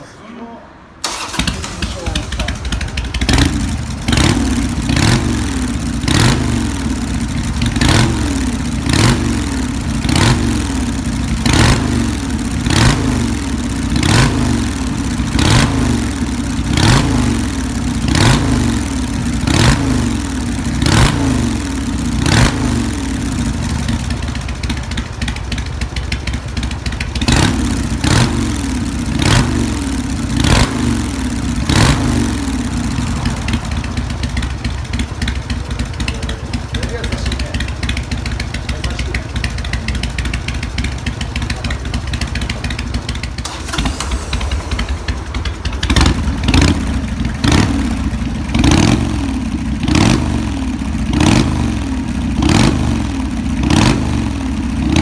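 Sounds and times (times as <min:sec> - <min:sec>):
motorcycle engine revving: 0:01.0 - 0:55.0.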